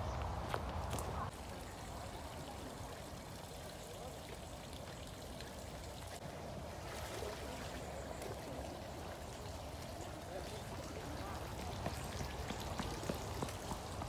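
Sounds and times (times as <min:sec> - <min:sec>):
water trickling: 0:01.3 - 0:14.0.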